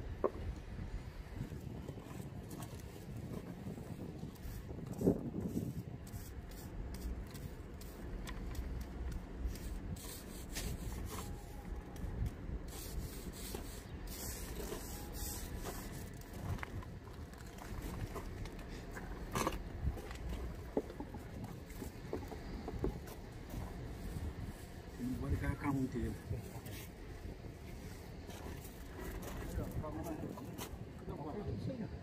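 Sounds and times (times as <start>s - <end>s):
steady low rumble: 0.0s - 32.0s
roller rubbing on fibreglass mat: 1.4s - 30.8s.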